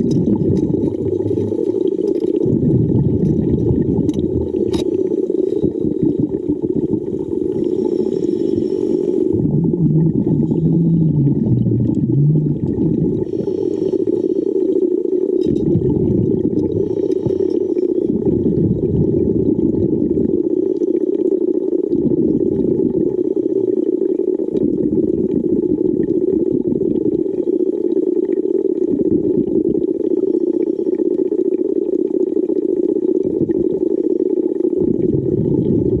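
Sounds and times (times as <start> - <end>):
muffled water noise: 0.0 - 36.0.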